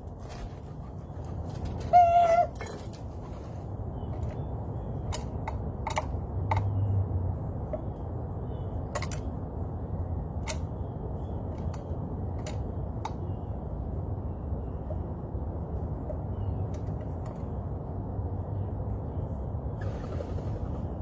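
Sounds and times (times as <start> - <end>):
small birds chirping: 3.1 - 21.0.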